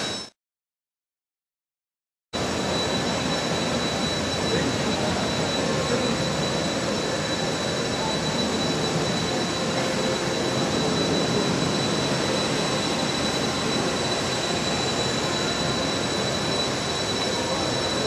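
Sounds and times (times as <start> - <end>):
high-pitched engine whine: 0.0 - 0.3, 2.4 - 18.0
jet engine roaring: 2.4 - 18.0.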